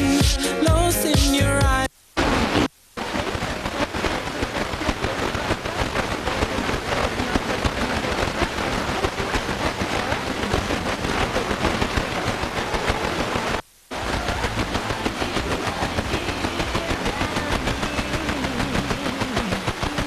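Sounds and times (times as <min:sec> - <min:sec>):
radio static hiss and crackling: 0:00.0 - 0:20.0.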